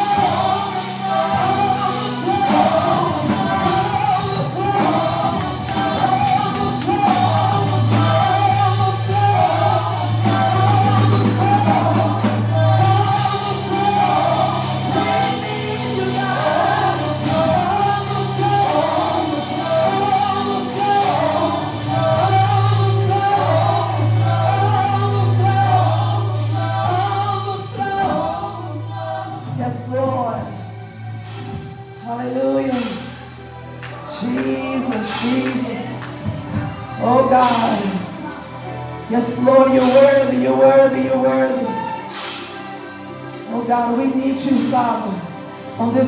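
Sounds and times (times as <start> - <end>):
band with bass and cymbals: 0.0 - 46.0
choir and singers: 0.0 - 46.0.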